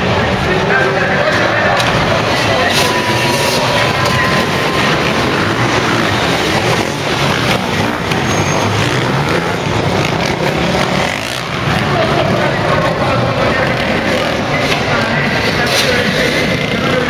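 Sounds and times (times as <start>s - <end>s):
motorbike engines revving: 0.0s - 17.0s.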